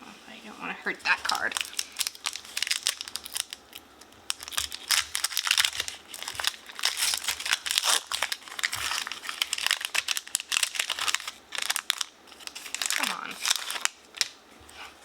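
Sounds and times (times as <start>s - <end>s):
foil wrapper crinkling and tearing: 1.1s - 15.0s.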